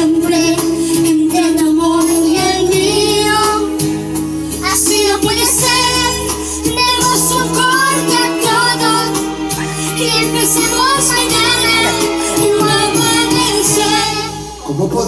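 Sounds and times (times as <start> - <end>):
girl singing into a microphone: 0.0 - 3.9, 4.6 - 14.5
karaoke backing music: 0.0 - 15.0.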